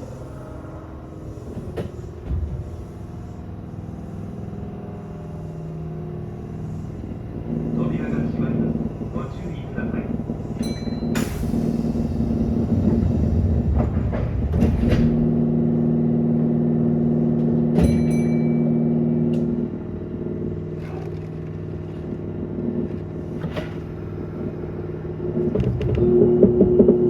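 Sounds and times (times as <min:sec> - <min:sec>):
electric train humming: 0:00.0 - 0:20.8, 0:22.1 - 0:27.0.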